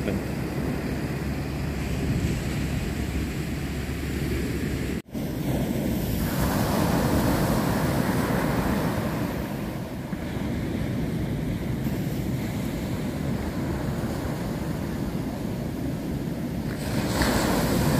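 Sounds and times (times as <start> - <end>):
ocean surf breaking on sand: 0.0 - 17.9
wind buffeting microphone: 0.0 - 17.9.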